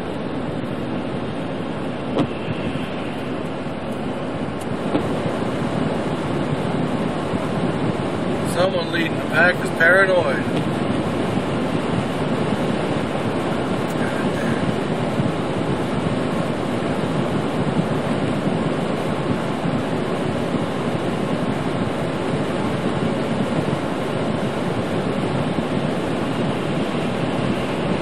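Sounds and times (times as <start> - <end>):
heater fan blowing: 0.0 - 28.0.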